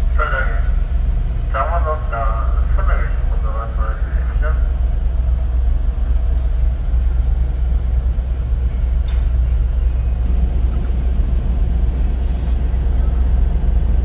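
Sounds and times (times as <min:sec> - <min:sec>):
low rumble inside car: 0:01.6 - 0:14.0.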